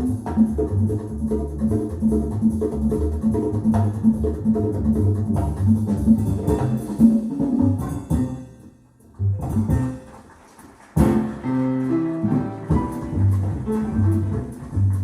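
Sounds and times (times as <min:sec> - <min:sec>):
jazz guitar and double bass: 0:00.0 - 0:10.2, 0:11.0 - 0:15.0.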